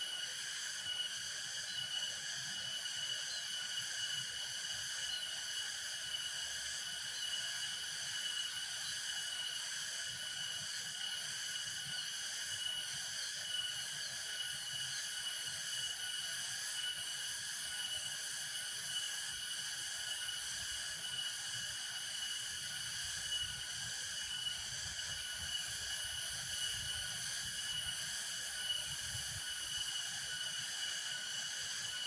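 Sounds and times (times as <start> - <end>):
crickets trilling: 0.0 - 32.0.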